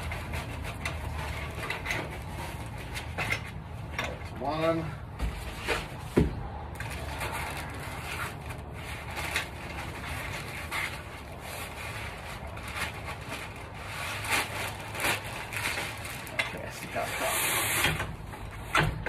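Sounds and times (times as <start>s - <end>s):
foam and plastic rustling: 0.0s - 3.8s, 4.4s - 18.8s.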